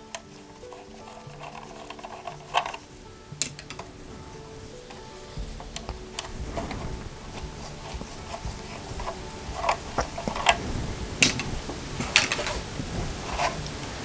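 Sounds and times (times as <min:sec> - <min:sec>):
hard plastic clicks and scrapes: 0:00.1 - 0:03.9, 0:05.6 - 0:13.8.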